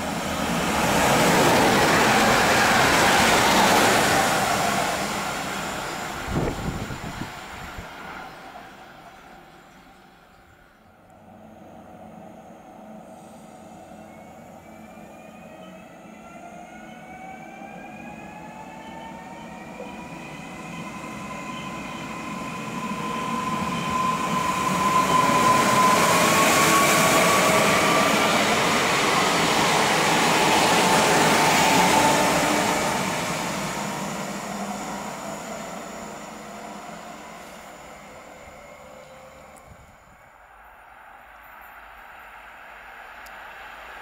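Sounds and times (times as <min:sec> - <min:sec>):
train running noise passing: 0:00.0 - 0:15.8, 0:16.5 - 0:44.0
electric train whine: 0:00.0 - 0:44.0.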